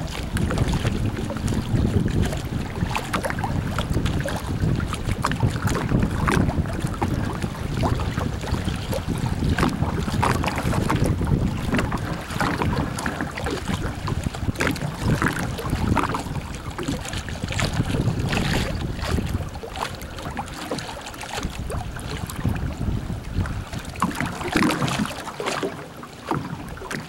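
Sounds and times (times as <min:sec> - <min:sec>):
wind buffeting microphone: 0:00.0 - 0:25.2
river water splashing against kayak: 0:00.0 - 0:27.0.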